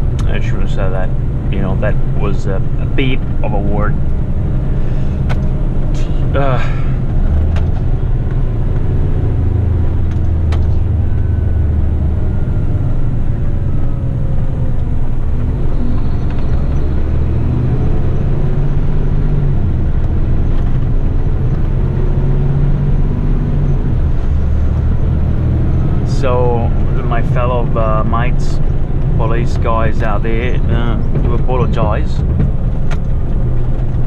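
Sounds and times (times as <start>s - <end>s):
road rumble: 0.0s - 34.0s
truck diesel engine running: 0.0s - 34.0s.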